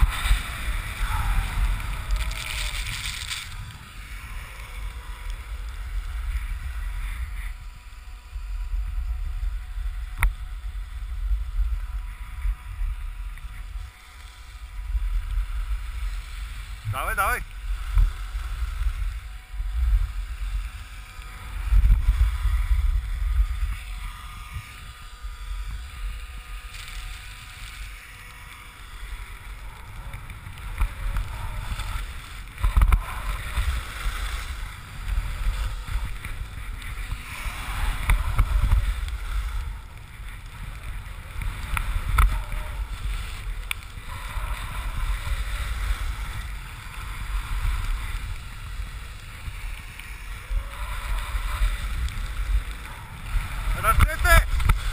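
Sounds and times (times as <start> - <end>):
skis scraping over snow: 0.0 - 54.9.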